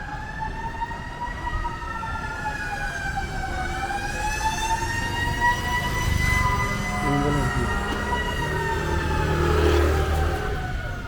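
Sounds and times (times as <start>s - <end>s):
fire truck siren wailing: 0.0s - 11.0s.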